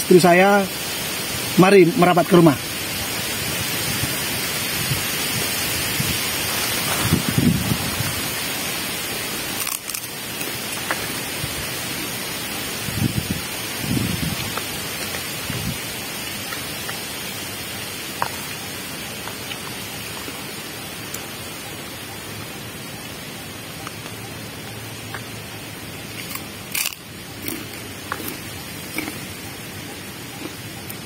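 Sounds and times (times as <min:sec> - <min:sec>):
river flowing: 0:00.0 - 0:31.0
rustle: 0:00.0 - 0:31.0.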